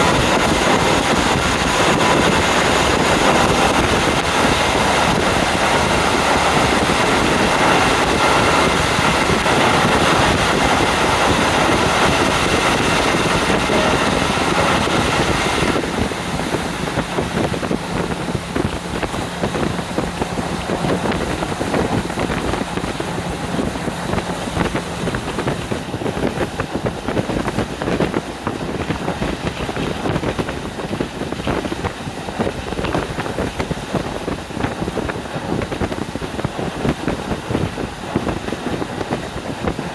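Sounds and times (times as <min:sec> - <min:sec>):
train running on rails: 0:00.0 - 0:39.9
wind rushing through train window: 0:00.0 - 0:39.9.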